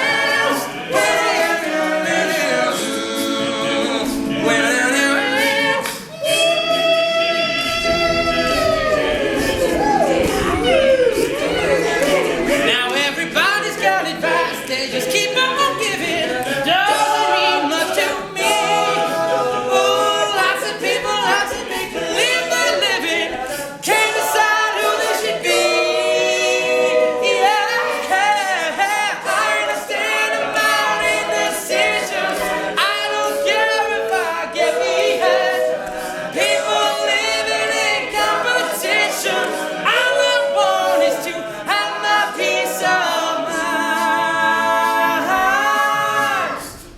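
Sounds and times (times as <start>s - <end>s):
male a cappella group singing: 0.0s - 46.9s.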